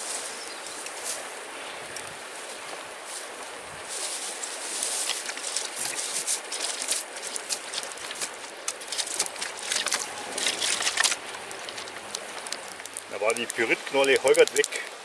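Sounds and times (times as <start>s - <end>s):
tinder and twigs crackling: 0.0s - 15.0s
twigs rustling: 0.0s - 15.0s.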